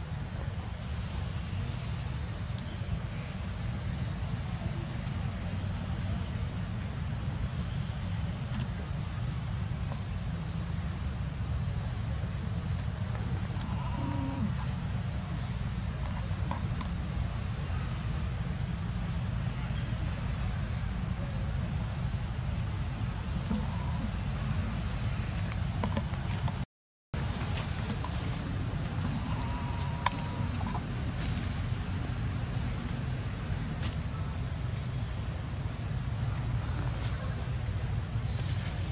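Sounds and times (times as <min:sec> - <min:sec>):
high-pitched insect chorus: 0:00.0 - 0:26.6, 0:27.2 - 0:38.9.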